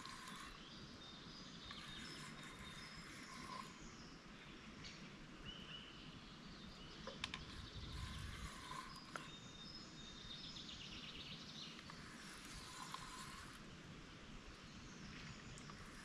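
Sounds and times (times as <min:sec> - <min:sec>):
birds chirping and whistling: 0:00.0 - 0:13.4.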